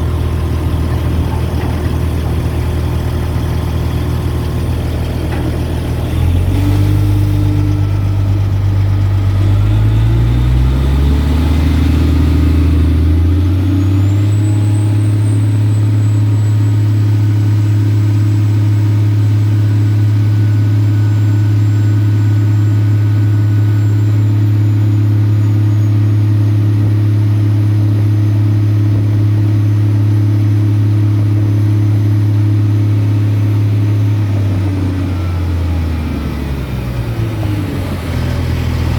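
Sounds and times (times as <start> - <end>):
crane engine revving: 0.0 - 38.9.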